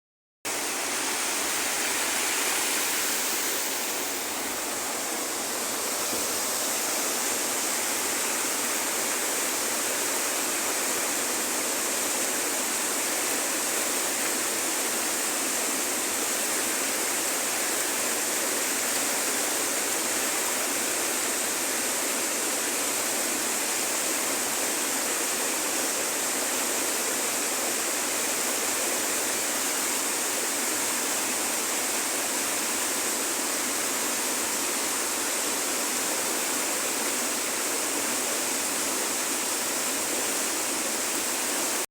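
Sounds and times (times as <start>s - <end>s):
river rushing: 0.5s - 41.9s.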